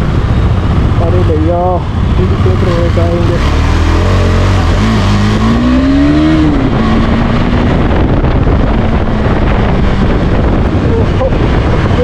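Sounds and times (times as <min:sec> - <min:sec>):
motorcycle engine accelerating: 0:00.0 - 0:12.0
wind noise on microphone: 0:00.0 - 0:12.0.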